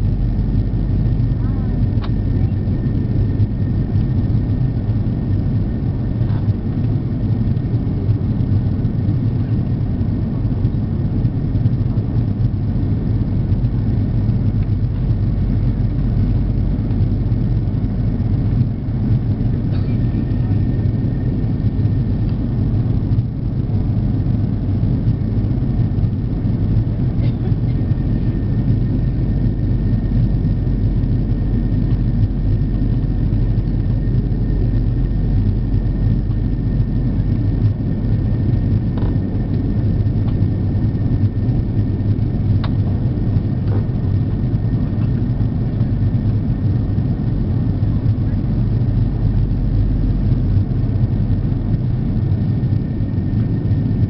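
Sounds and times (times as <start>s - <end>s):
faint high whine: 0.0s - 54.0s
jet cabin engine rumble: 0.0s - 54.0s.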